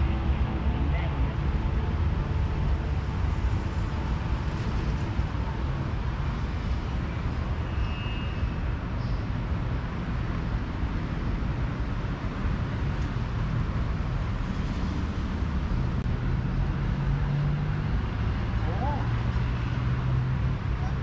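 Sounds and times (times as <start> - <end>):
fluttering outdoor rumble: 0.0 - 21.0.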